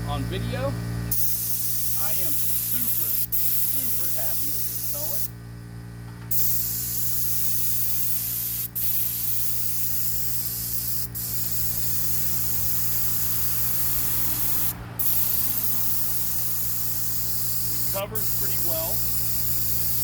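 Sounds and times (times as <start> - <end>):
steady low hum: 0.0 - 20.0
paint spray gun hissing: 1.1 - 5.4, 6.3 - 20.0.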